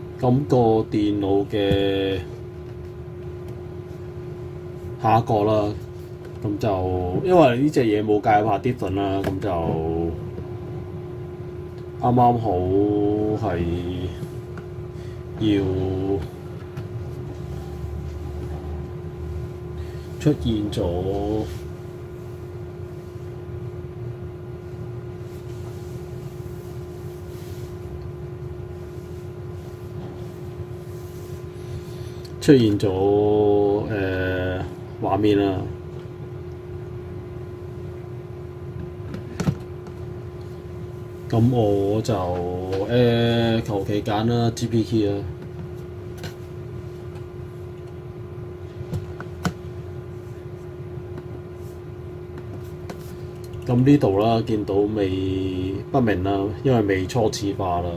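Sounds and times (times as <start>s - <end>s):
low mechanical hum: 0.0s - 57.9s.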